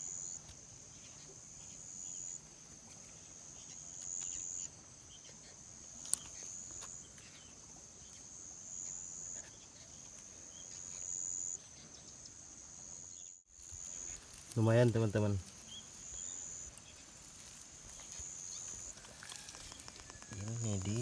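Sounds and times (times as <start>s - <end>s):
insects buzzing trill: 0.0s - 21.0s.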